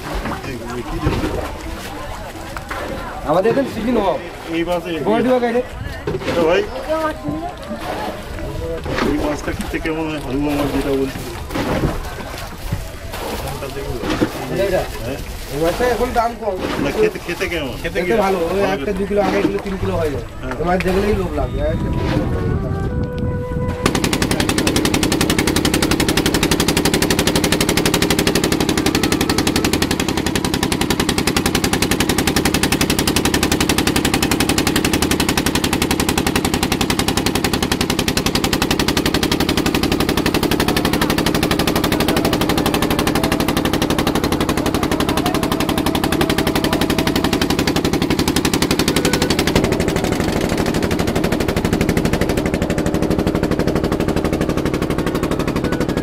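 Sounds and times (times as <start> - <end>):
boat engine pulsing: 0.0 - 56.0.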